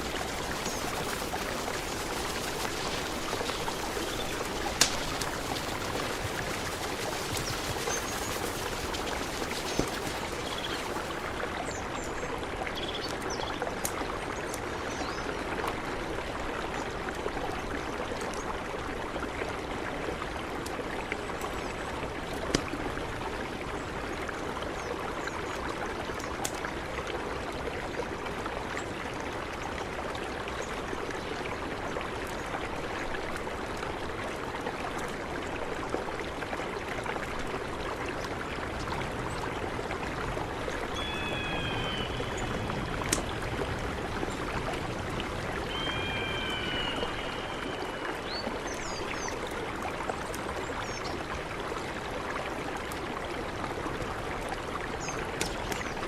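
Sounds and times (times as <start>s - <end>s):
mountain river flowing: 0.0s - 56.0s.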